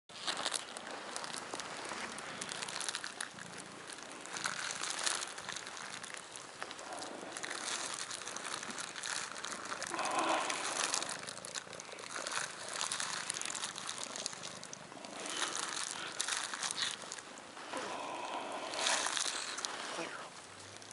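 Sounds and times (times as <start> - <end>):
plastic sleeve crinkling: 0.2 - 20.9.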